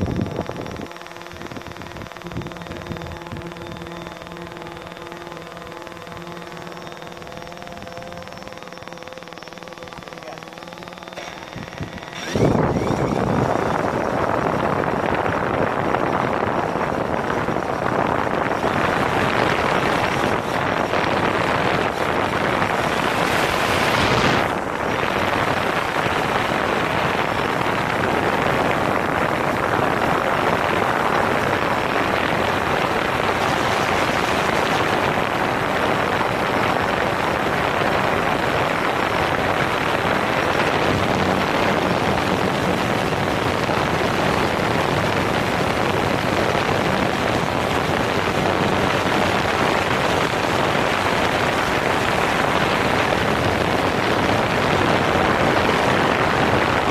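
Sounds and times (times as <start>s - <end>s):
wind buffeting microphone: 0.0s - 8.4s, 11.4s - 56.9s
propeller downwash rushing: 0.0s - 56.9s.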